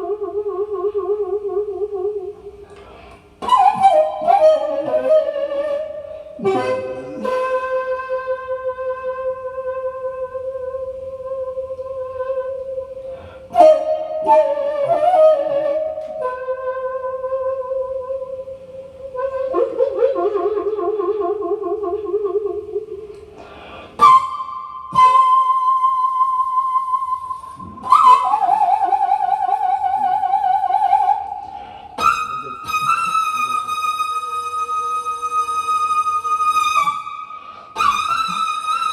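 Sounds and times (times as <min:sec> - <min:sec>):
bamboo flute playing: 0:00.0 - 0:02.7, 0:03.4 - 0:38.9.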